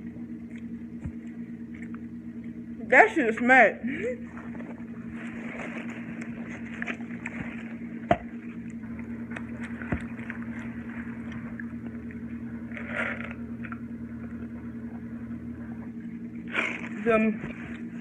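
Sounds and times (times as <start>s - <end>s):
wet crackly chewing: 0.0s - 2.6s, 4.4s - 17.0s
steady low hum: 0.0s - 18.0s.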